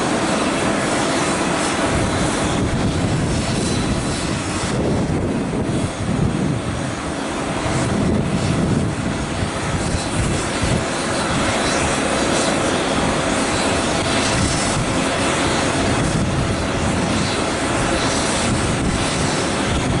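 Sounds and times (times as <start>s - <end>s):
jet aircraft engine rush: 0.0s - 20.0s.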